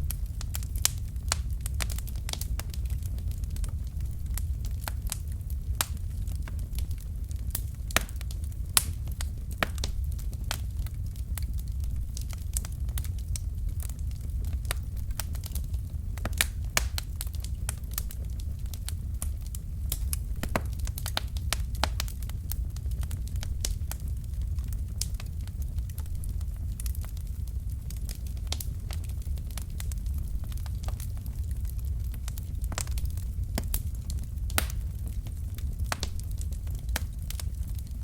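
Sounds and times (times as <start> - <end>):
fire rumbling: 0.0 - 38.0
logs crackling and popping: 0.0 - 38.0.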